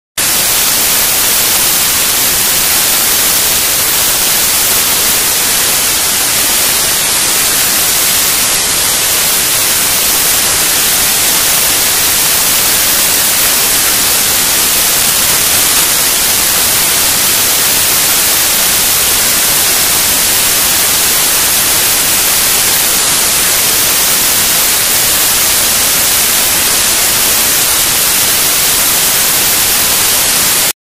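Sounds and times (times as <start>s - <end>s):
loud static hiss: 0.2s - 30.8s.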